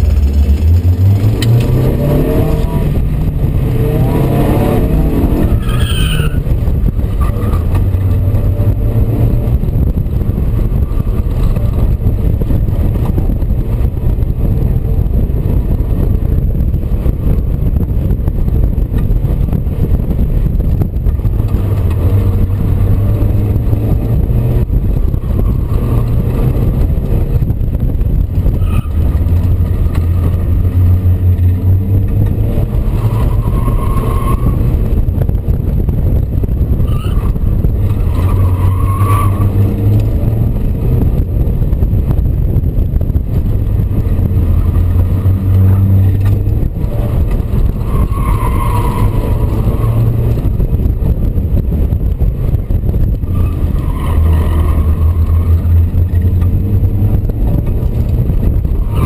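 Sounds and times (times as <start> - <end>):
car engine running hard: 0.0 - 59.0
wind and road noise: 0.0 - 59.0.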